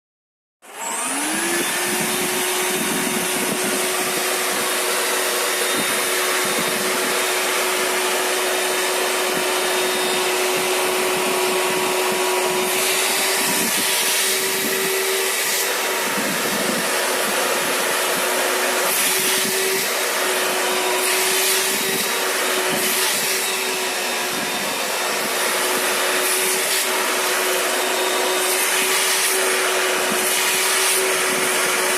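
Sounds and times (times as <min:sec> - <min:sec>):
wet vacuum cleaner motor whine: 0:00.6 - 0:31.9.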